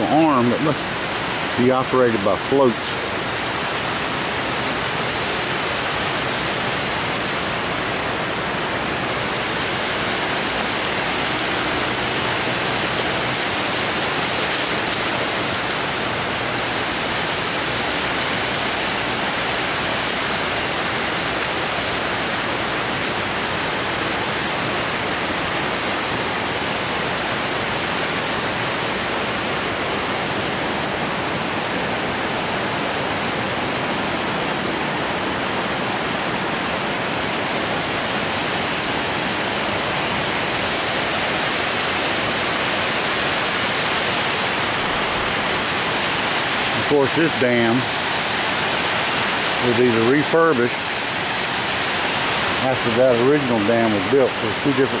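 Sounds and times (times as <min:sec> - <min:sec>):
water pouring over a dam: 0:00.0 - 0:55.0.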